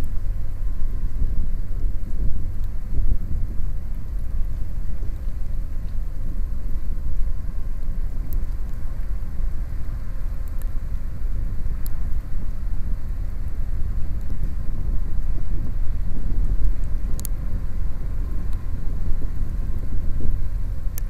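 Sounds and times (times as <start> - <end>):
faint machinery hum: 0.0 - 21.0
ferry diesel engines rumbling: 0.0 - 21.0
wind buffeting microphone: 0.0 - 21.0.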